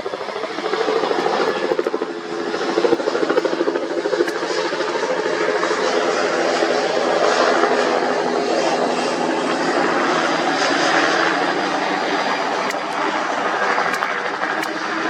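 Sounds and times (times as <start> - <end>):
helicopter rotor and turbine noise: 0.0 - 15.0.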